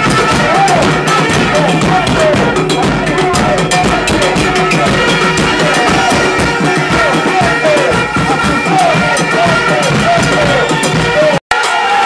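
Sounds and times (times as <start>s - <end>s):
drums beating fast rhythm: 0.0s - 12.0s
people shouting: 0.0s - 12.0s.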